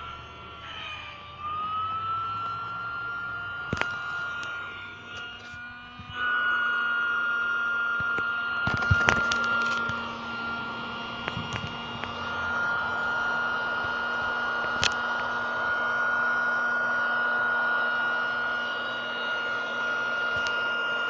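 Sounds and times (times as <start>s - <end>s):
air pump whining: 0.0s - 21.0s.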